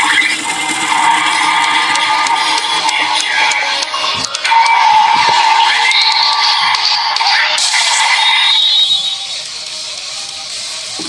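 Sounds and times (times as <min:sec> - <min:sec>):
electronic music from toy speaker: 0:00.0 - 0:11.0.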